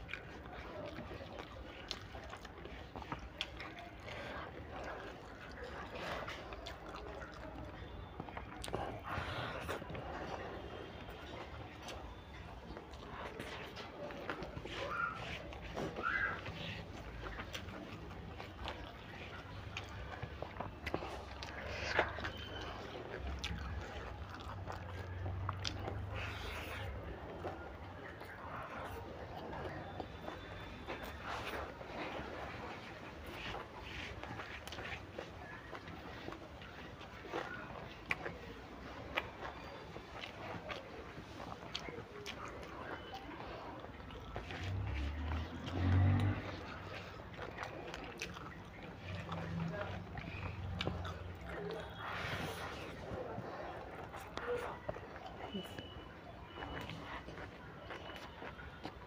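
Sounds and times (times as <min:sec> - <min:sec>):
chewing noodles: 0:00.0 - 0:59.0
fingers squishing noodles: 0:00.0 - 0:59.0.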